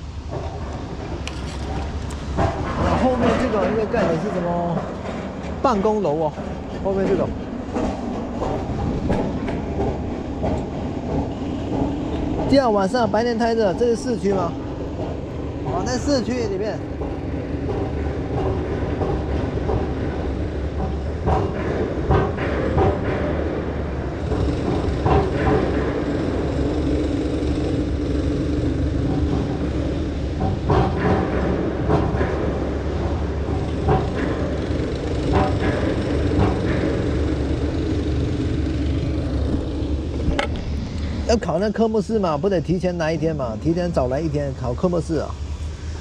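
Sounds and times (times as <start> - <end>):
knocks and rattles: 0.0 - 45.6
vehicle low rumble and hum: 0.0 - 46.0.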